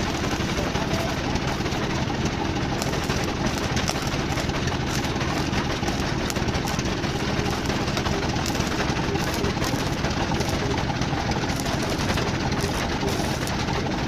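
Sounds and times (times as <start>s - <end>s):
machine running with fast rattle: 0.0s - 14.0s.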